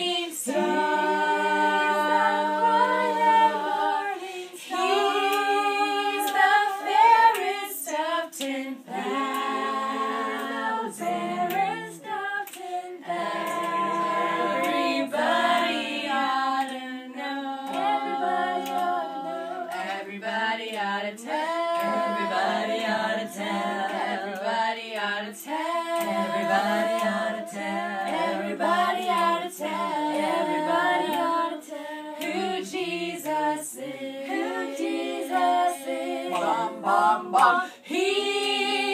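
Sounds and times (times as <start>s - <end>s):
voices singing unaccompanied: 0.0s - 38.9s.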